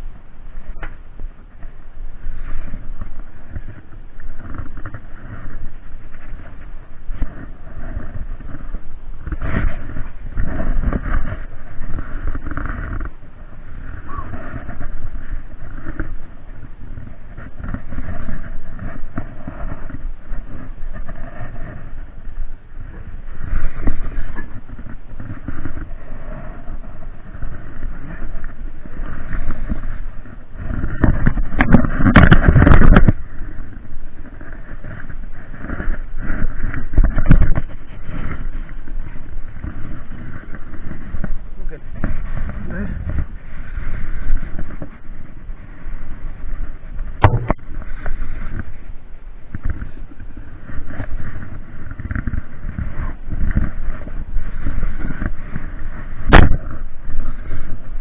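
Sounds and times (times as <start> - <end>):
water rushing around boat: 0.0 - 58.0
wind buffeting microphone: 0.0 - 58.0.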